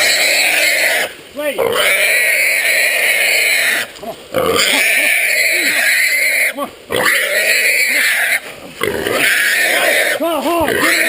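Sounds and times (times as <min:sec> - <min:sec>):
hog squealing: 0:01.7 - 0:11.0.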